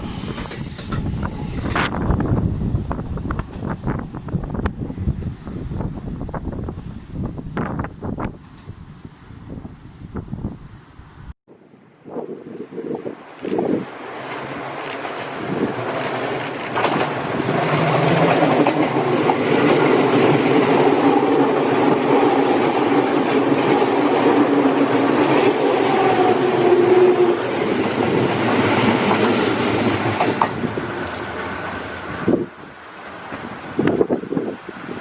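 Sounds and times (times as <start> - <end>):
train running on rails: 0.0 - 35.0.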